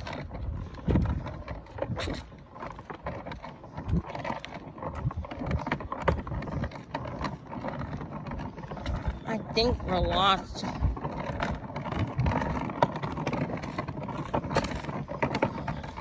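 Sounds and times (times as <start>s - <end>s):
toy car wheels rumbling on concrete: 0.0s - 16.0s.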